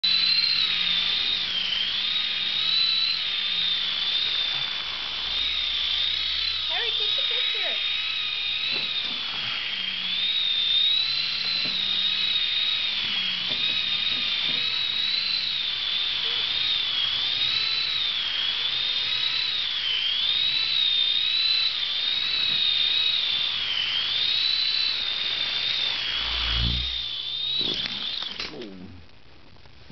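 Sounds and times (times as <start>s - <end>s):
toy helicopter motor whining: 0.0s - 29.1s.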